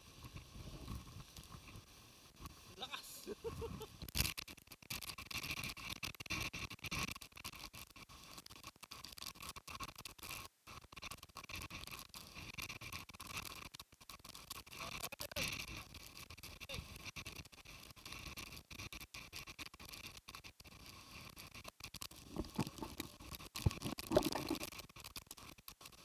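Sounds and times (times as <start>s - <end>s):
wind and rain on microphone: 0.0s - 26.0s.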